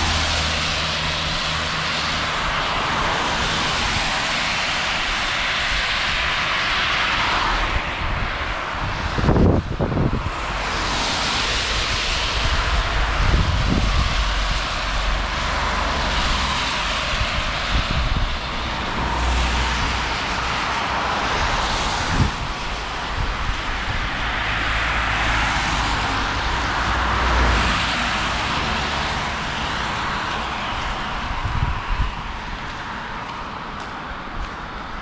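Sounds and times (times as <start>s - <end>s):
tyres hissing on wet road: 0.0s - 35.0s.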